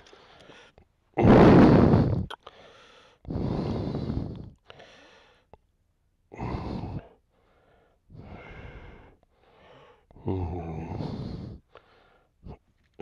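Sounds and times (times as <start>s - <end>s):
man breathing: 0.0s - 5.6s, 6.3s - 13.0s.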